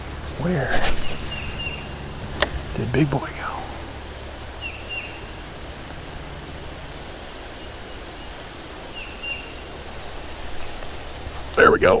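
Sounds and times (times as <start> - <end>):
background rush: 0.0 - 12.0
crickets trilling: 0.0 - 12.0.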